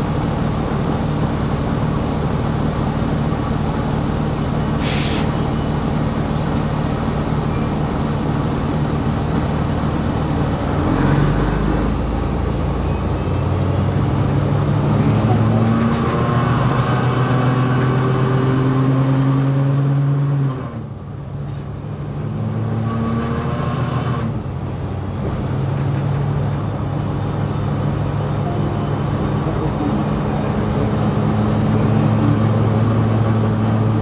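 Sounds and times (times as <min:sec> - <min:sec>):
bus engine hum: 0:00.0 - 0:34.0.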